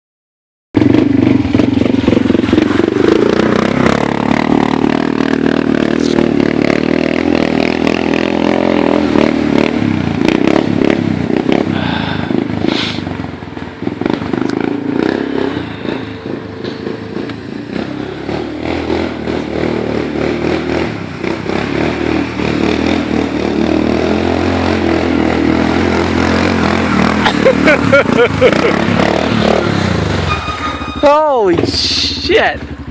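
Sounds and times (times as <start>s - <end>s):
atv engine running under load: 0.8s - 32.9s.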